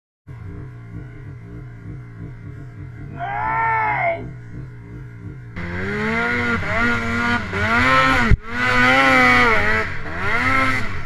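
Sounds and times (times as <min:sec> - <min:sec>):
snowmobile engine revving: 0:00.3 - 0:11.0.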